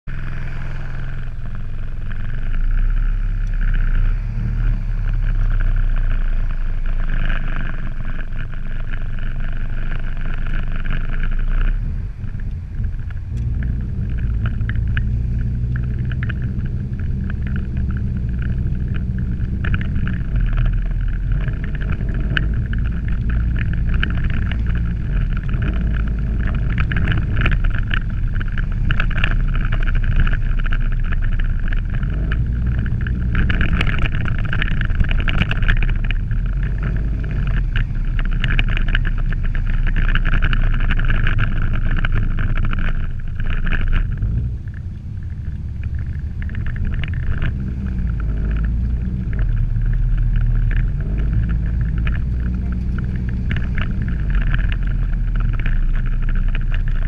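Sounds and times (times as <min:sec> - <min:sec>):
road and wind noise: 0:00.0 - 0:57.0
small clicks and rattles: 0:00.3 - 0:57.0.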